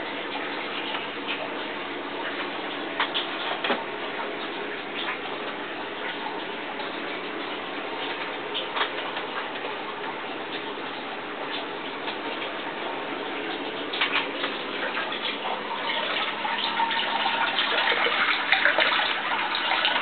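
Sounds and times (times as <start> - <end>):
water drips: 0.0 - 20.0
water trickling: 0.0 - 20.0.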